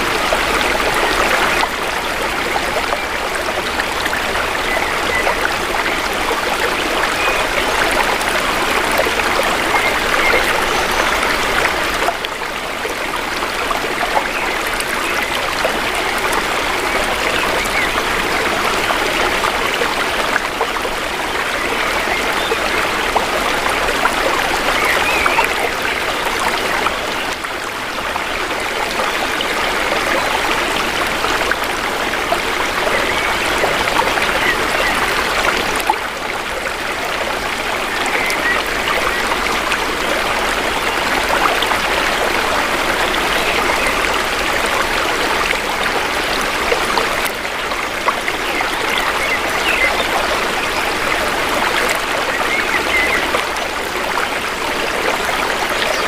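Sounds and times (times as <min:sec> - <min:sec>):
stream babbling and trickling: 0:00.0 - 0:56.0.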